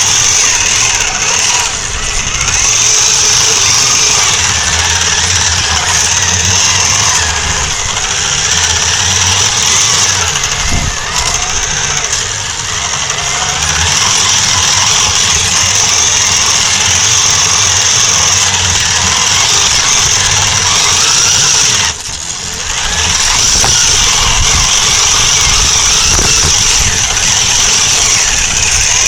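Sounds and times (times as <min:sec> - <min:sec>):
toy truck motor and gear whine: 0:00.0 - 0:29.0
wheels and chassis rumble: 0:00.0 - 0:29.0.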